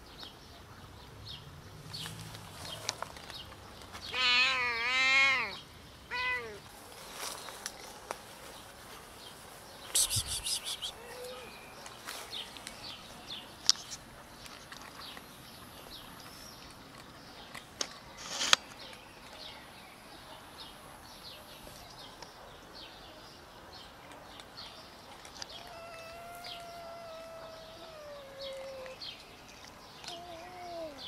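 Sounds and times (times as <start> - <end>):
small birds chirping: 5.4 - 31.0.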